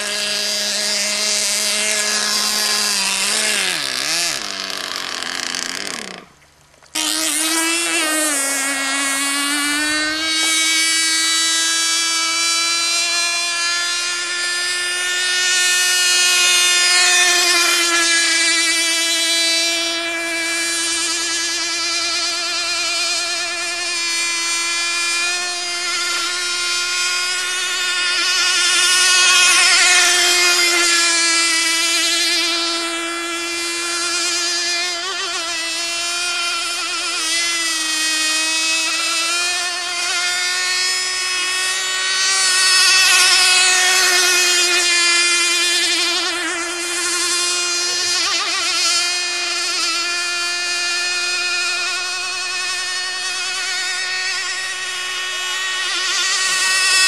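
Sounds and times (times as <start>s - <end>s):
model boat engine buzzing: 0.0s - 57.0s.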